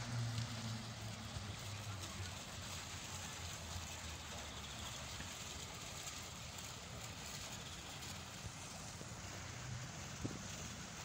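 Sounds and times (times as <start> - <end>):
fountain jets splashing into water: 0.0 - 11.0.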